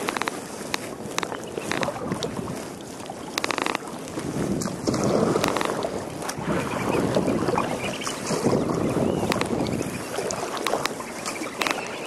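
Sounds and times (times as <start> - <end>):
paddle strokes splashing water: 0.0 - 12.0
wind buffeting microphone: 0.0 - 12.0.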